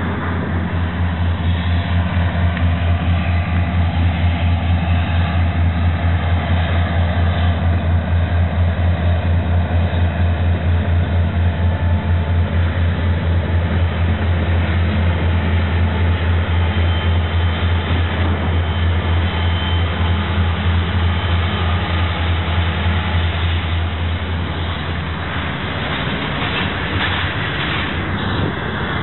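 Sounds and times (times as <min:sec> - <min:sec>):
diesel locomotive engine drone: 0:00.0 - 0:29.0
rail cars rolling: 0:00.0 - 0:29.0.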